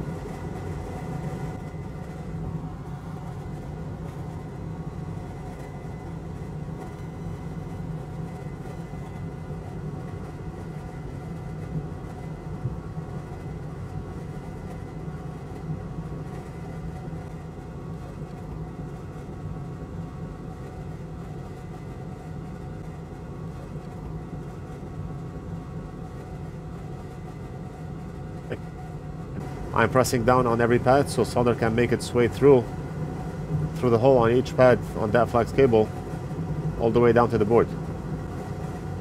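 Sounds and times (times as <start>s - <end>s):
faint high whine: 0.0s - 39.0s
low mechanical hum: 0.0s - 39.0s.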